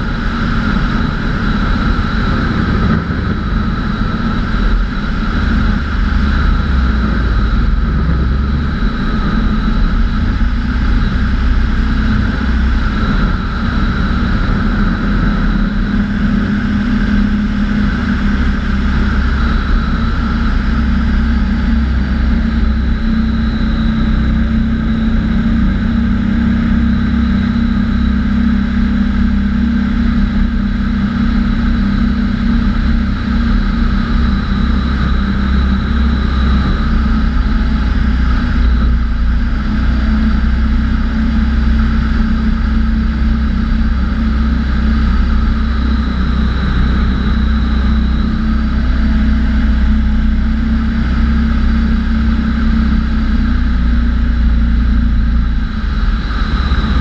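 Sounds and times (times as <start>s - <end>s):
propeller engine drone: 0.0s - 57.0s
wind rushing over microphone: 0.0s - 57.0s.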